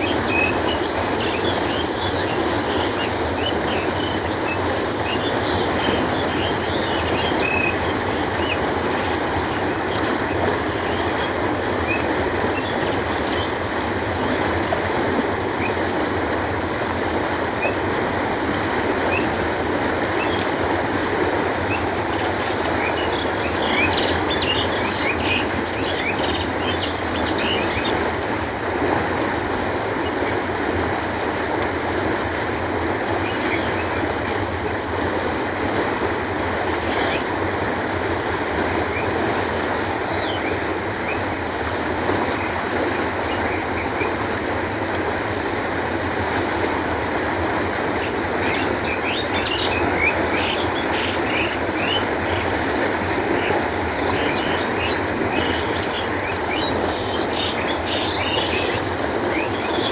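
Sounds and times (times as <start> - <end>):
water flowing: 0.0 - 59.9.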